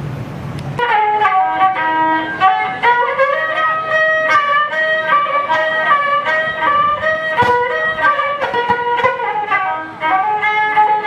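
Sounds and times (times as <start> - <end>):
open-air noise: 0.0 - 11.0
instrumental background music: 0.8 - 11.0.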